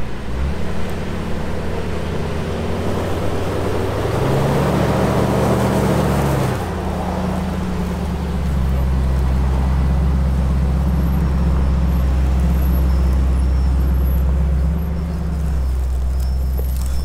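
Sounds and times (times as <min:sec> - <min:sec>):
truck engine running under load: 0:00.0 - 0:17.0.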